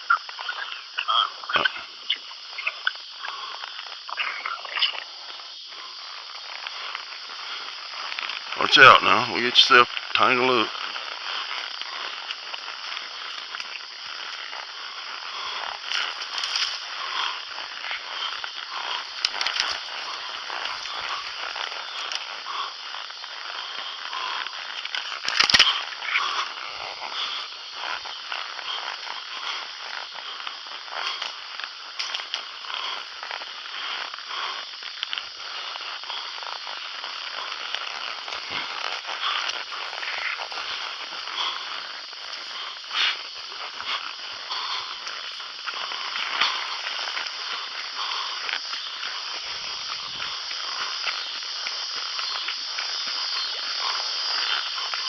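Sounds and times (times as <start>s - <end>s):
branches crackling and snapping: 4.7s - 55.0s.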